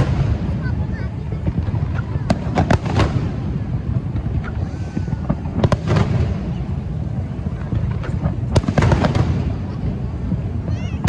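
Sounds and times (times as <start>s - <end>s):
fireworks bangs with echoes: 0.0s - 11.0s
low rumble: 0.0s - 11.0s.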